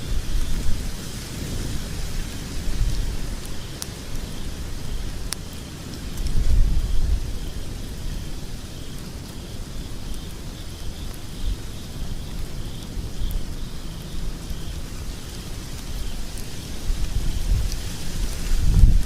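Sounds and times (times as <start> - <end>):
faint crackles of burning logs: 0.0 - 19.0
fire burning in fireplace: 0.0 - 19.0.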